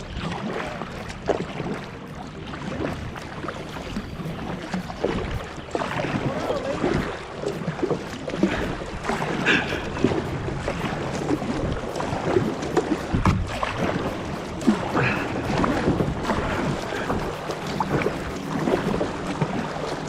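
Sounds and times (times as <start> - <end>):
kayak paddles splashing in water: 0.0 - 20.0.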